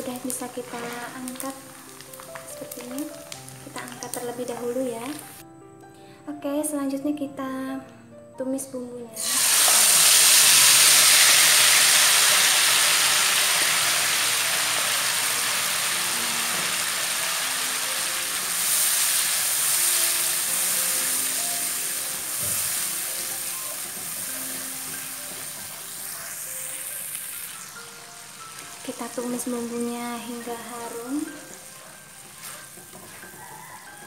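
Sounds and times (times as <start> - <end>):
chili paste sizzling in hot oil: 0.0 - 5.4, 9.2 - 34.0.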